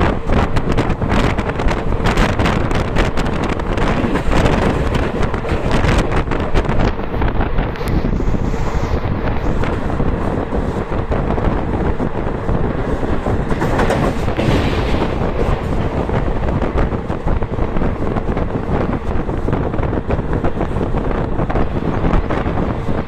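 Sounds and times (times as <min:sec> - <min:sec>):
train wheels rumbling on rails: 0:00.0 - 0:23.0
wind blowing across microphone: 0:00.0 - 0:23.0.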